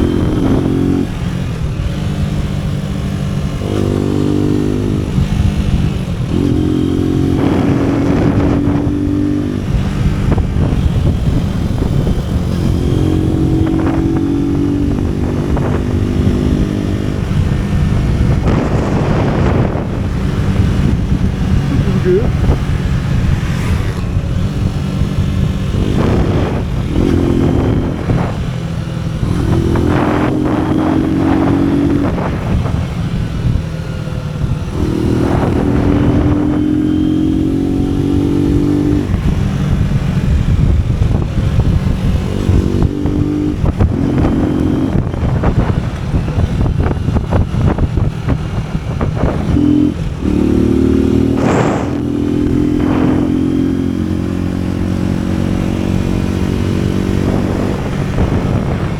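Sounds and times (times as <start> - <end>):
motorcycle engine under throttle: 0.0 - 58.9.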